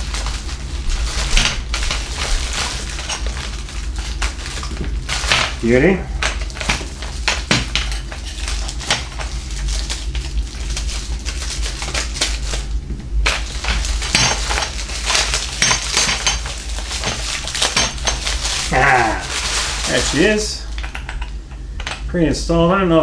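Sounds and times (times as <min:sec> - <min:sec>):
plastic packaging crinkling: 0:00.0 - 0:21.4.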